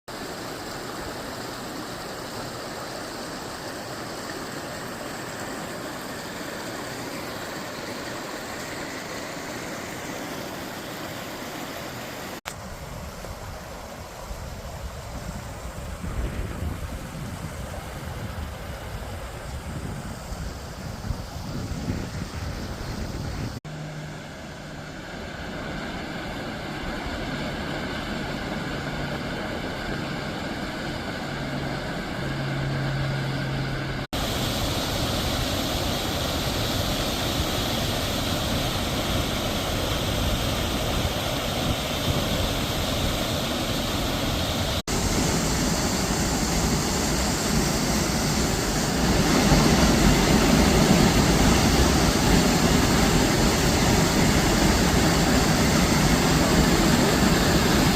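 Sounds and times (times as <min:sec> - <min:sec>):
waterfall rushing: 0:00.1 - 0:12.4, 0:21.5 - 0:57.9.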